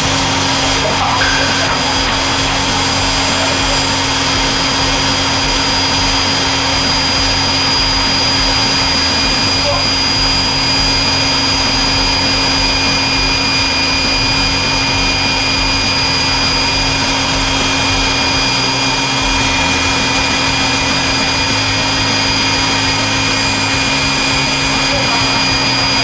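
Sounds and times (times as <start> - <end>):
electric air blower running: 0.0 - 26.0.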